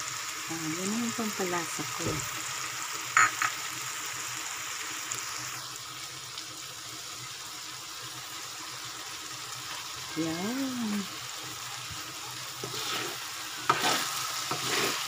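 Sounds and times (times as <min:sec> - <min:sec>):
vegetables sizzling in a wok: 0:00.0 - 0:15.0.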